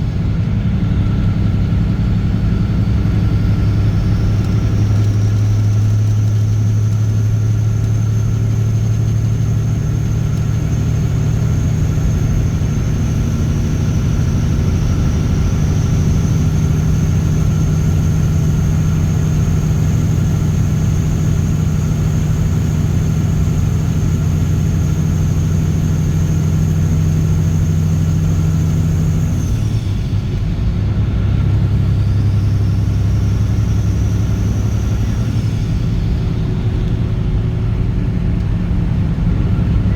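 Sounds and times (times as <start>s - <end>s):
diesel engine running loud: 0.0s - 39.9s.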